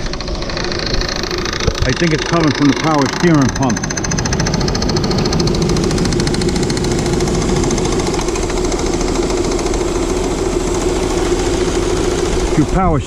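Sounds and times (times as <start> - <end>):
car engine running: 0.0 - 13.0
rapid even rattle: 0.0 - 13.0
whining tone: 0.0 - 13.0.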